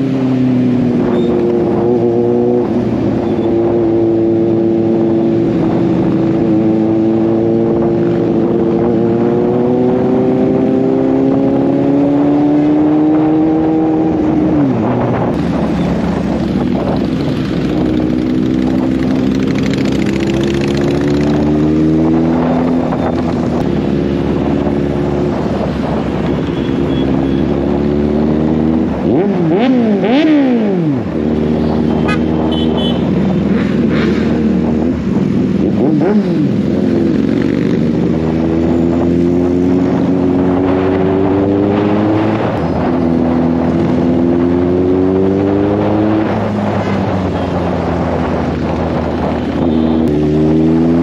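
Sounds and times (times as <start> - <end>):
motorcycle engine accelerating: 0.0 - 51.0
road and wind noise: 0.0 - 51.0.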